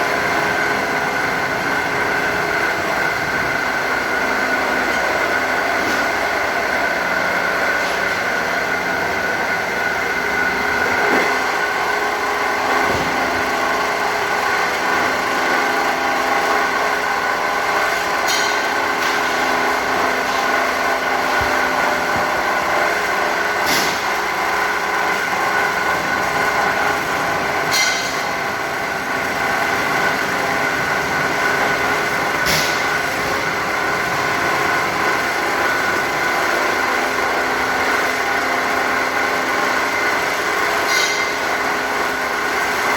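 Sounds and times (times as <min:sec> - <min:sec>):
cutting machine humming and whining: 0:00.0 - 0:42.9.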